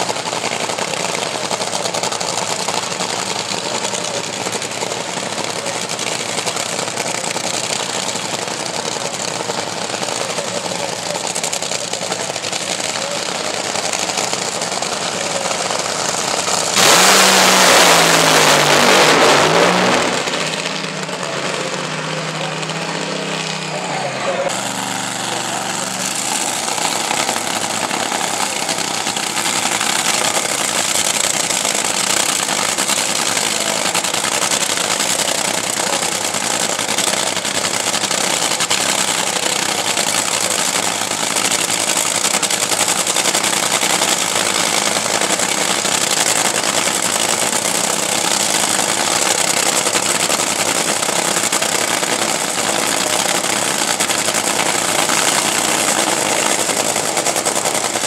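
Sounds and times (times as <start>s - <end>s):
dragster engine running loud: 0.0s - 58.0s.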